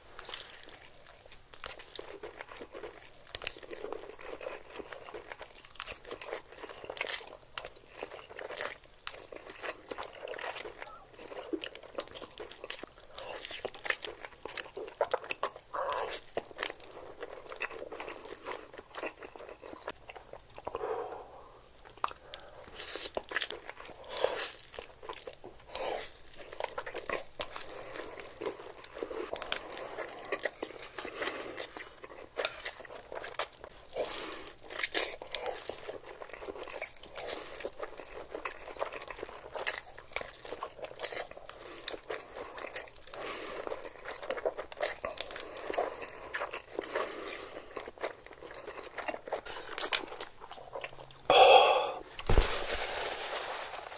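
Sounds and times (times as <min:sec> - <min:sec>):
person chewing and biting food: 0:00.2 - 0:20.8, 0:21.8 - 0:53.7.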